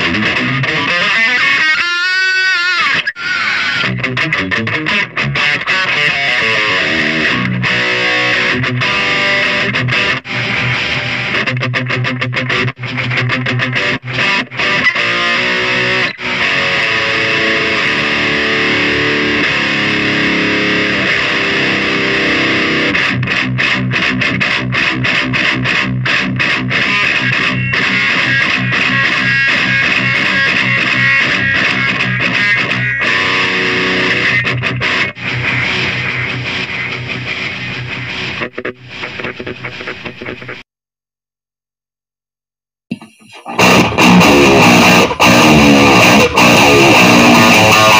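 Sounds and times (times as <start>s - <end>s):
distorted electric guitar: 0.0s - 40.7s, 42.9s - 47.9s.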